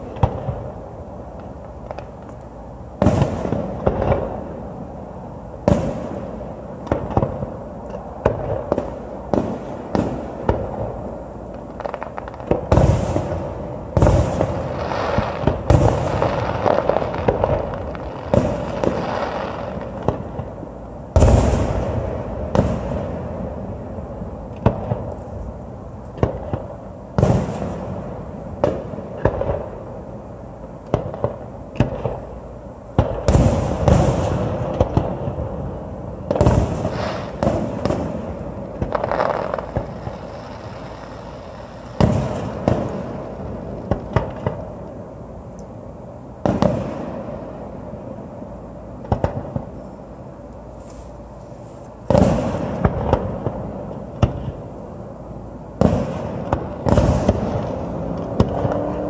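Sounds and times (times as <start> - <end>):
fireworks bursting in booms: 0.0 - 2.3, 3.0 - 5.0, 5.6 - 25.1, 26.1 - 30.1, 30.8 - 44.9, 46.4 - 48.2, 49.0 - 49.9, 52.0 - 55.0, 55.7 - 59.0
fireworks pops and crackling: 0.0 - 4.8, 5.6 - 30.0, 30.7 - 45.8, 46.4 - 47.7, 49.0 - 55.0, 55.7 - 59.0.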